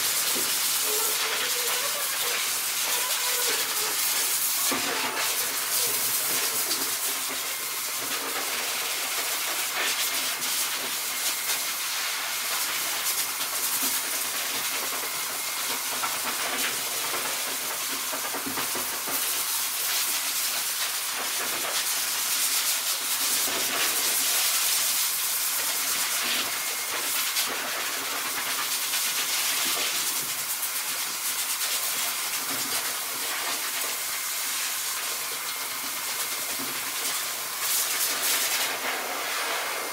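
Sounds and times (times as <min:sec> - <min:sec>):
electric clippers running: 0:00.0 - 0:21.9, 0:22.7 - 0:39.9.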